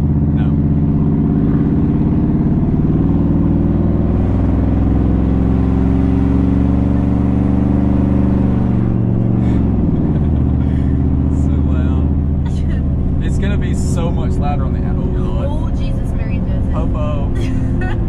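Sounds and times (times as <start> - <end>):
truck exhaust drone from inside cab: 0.0 - 18.0.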